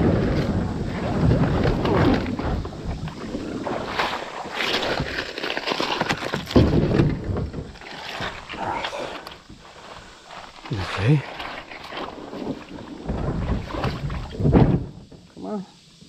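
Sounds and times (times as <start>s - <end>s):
water sloshing and splashing: 0.0s - 15.3s.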